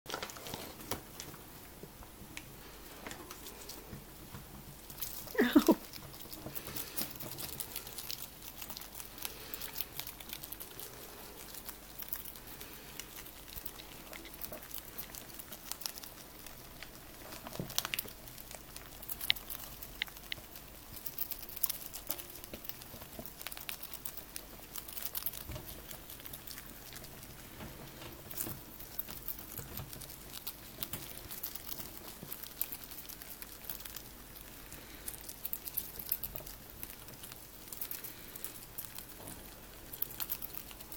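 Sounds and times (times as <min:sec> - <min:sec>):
rats chewing crunchy food: 0:00.1 - 0:40.9.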